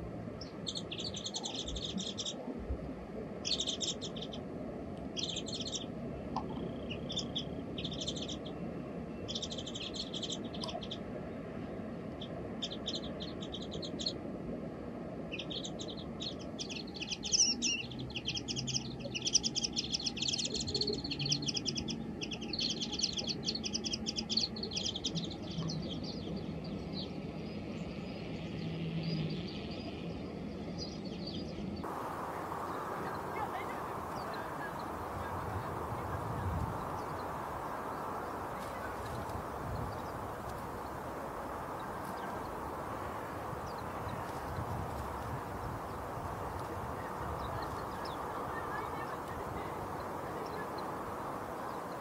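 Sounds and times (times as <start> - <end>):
small songbirds chirping: 0.0 - 2.5, 3.4 - 14.2, 15.3 - 52.0.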